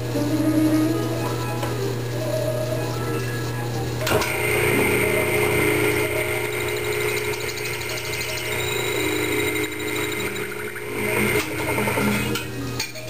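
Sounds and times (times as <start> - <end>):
milling machine hum and whine: 0.0 - 13.0.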